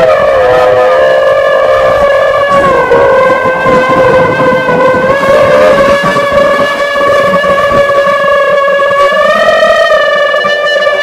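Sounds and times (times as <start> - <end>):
drone propellers whining: 0.0 - 11.0
rushing wind noise: 0.0 - 11.0.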